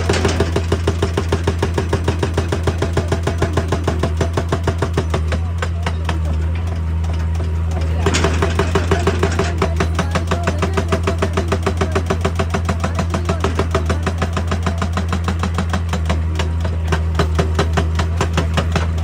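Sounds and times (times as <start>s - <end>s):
excavator diesel engine hum: 0.0s - 19.0s
hydraulic breaker pounding rock: 0.0s - 19.0s.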